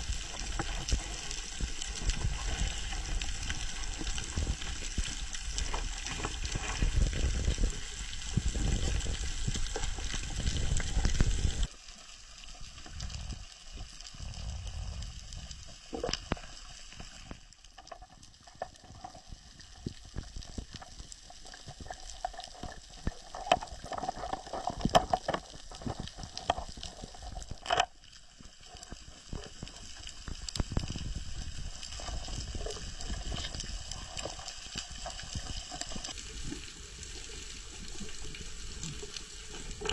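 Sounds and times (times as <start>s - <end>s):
fine underwater crackling: 0.0s - 39.9s
underwater rushing water: 0.0s - 39.9s.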